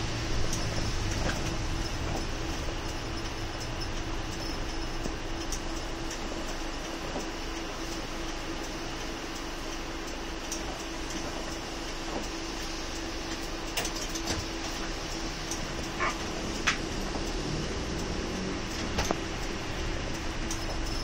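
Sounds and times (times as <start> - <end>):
bus engine and road hum: 0.0 - 21.0.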